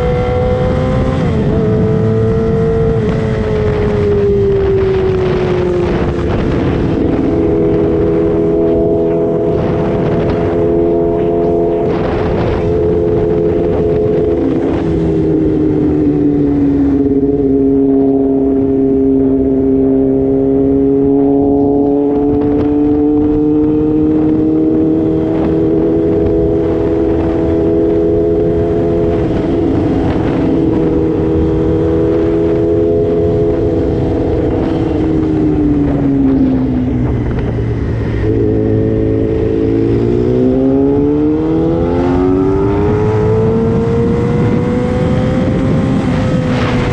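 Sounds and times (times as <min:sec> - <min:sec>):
motorcycle engine revving: 0:00.0 - 0:46.9
wind buffeting: 0:00.0 - 0:46.9.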